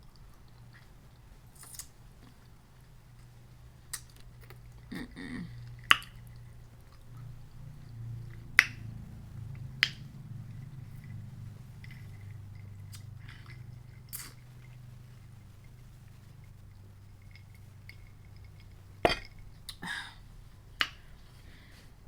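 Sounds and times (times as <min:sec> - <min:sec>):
person chewing food: 0:00.0 - 0:19.8.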